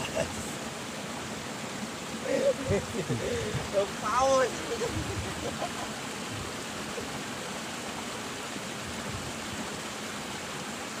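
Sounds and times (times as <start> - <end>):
water flowing in a ditch: 0.0 - 11.0.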